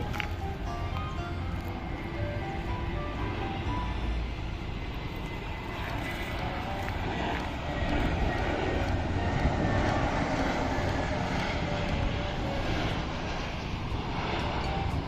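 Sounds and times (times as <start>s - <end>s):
landing airplane engine roar: 0.0s - 15.0s.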